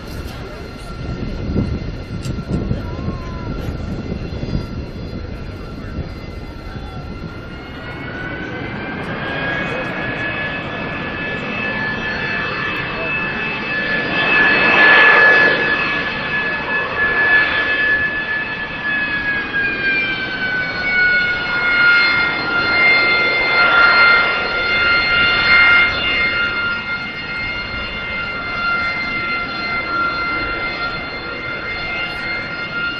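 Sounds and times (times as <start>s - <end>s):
jet engine whining: 0.0s - 32.9s.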